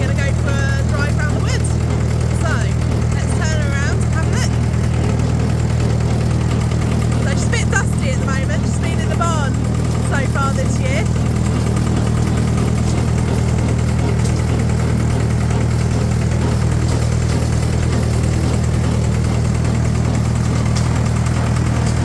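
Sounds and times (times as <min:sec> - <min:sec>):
tractor engine running steadily: 0:00.0 - 0:22.0.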